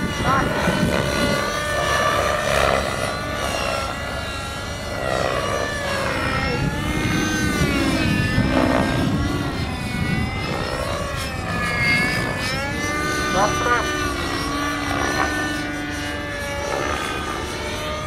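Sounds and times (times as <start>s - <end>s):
model helicopter rotor whine: 0.0s - 18.0s.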